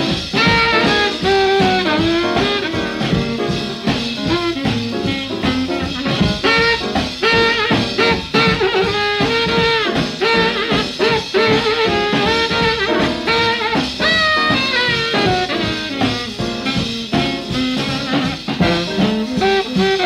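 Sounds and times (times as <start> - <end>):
alto saxophone lead notes: 0.0 - 20.0
swing jazz combo: 0.0 - 20.0.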